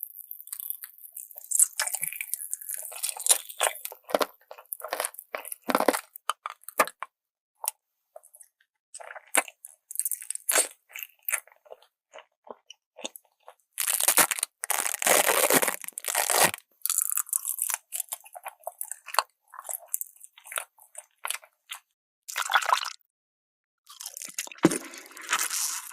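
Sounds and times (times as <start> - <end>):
crunching and chewing: 0.0 - 21.9, 23.9 - 25.9.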